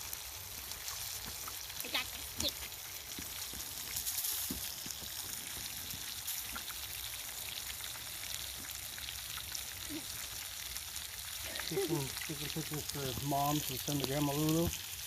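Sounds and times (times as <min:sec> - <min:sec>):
campfire crackling: 0:00.0 - 0:15.0
food sizzling in a pan: 0:00.0 - 0:15.0.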